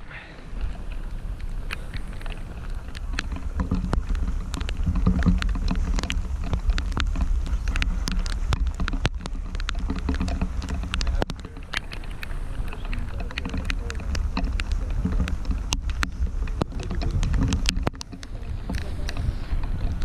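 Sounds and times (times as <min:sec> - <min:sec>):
raindrops ticking on camera: 0:00.0 - 0:20.0
wind buffeting microphone: 0:00.0 - 0:20.0.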